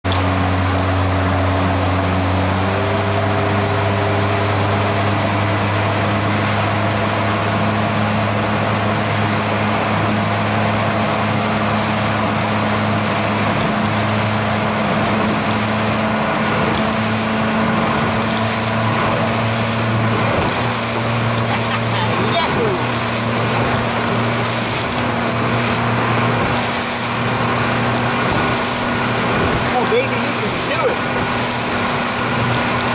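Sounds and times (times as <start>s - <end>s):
motorboat engine running: 0.0s - 32.9s
rush of wind and water: 0.0s - 32.9s.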